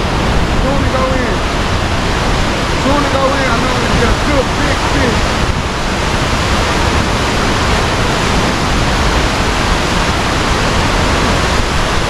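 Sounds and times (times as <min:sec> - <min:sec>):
loud low rushing noise: 0:00.0 - 0:12.0.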